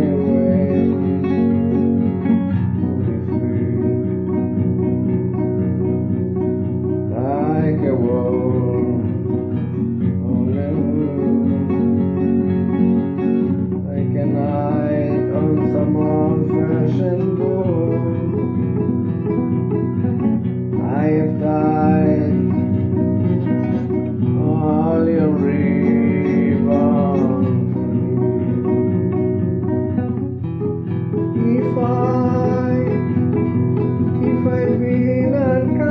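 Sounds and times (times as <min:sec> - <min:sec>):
acoustic guitar music: 0:00.0 - 0:35.9.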